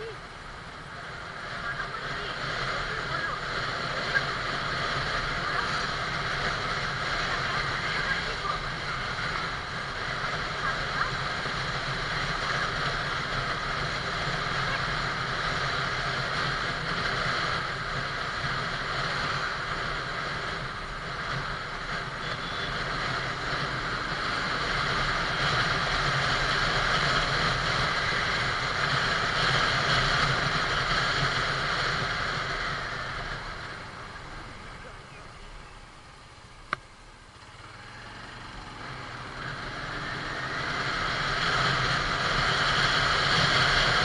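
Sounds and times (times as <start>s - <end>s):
motorcycle engine hum: 0.0s - 44.0s.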